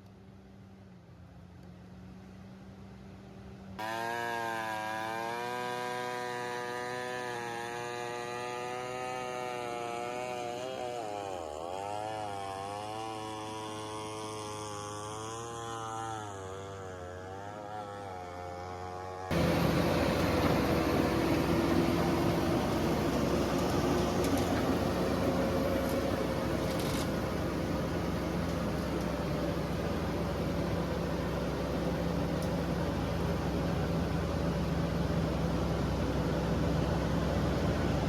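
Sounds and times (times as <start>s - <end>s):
diesel engine under load: 3.8s - 18.7s, 19.3s - 38.0s.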